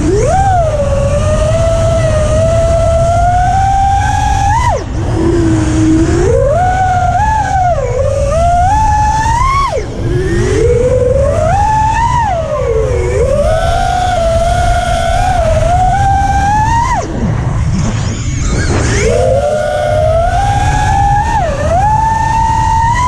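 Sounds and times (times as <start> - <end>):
drone motors whining: 0.0 - 23.0
low rumble of air noise: 0.0 - 23.0.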